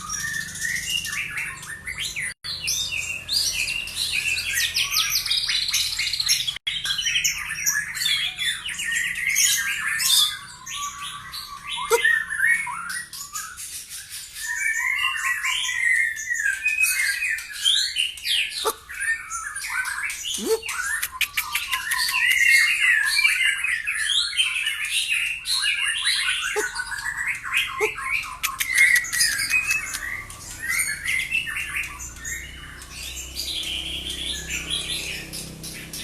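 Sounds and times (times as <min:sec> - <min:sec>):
songbird chirps and trills: 0:00.0 - 0:36.0.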